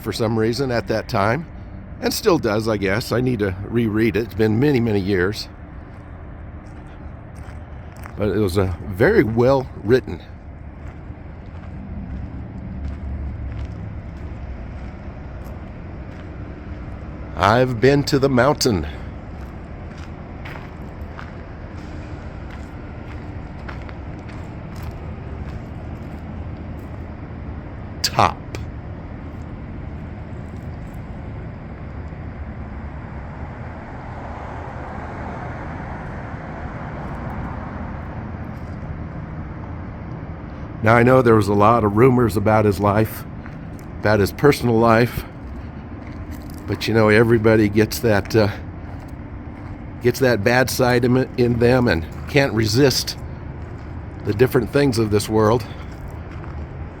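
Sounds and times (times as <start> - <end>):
street traffic: 0.0 - 57.0
vehicle engine rumbling: 0.0 - 57.0.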